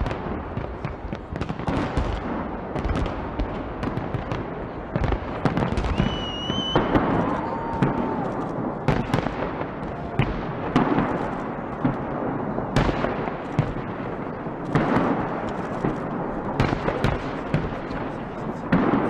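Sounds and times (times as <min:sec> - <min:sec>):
fireworks bursting with sharp bangs: 0:00.0 - 0:19.0
fireworks crackle: 0:00.0 - 0:19.0.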